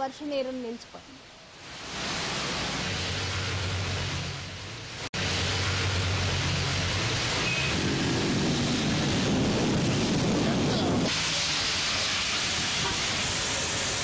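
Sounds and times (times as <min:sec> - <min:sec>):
heavy rain pouring: 0:01.3 - 0:14.0
car driving through water: 0:01.7 - 0:14.0.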